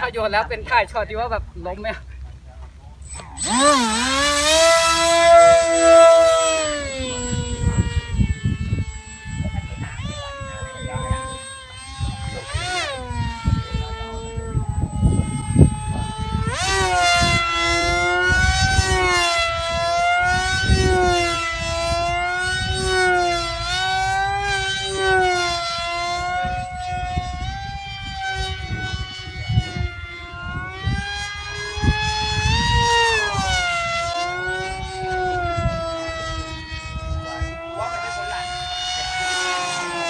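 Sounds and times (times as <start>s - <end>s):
model plane motor whining overhead: 0.0s - 40.0s.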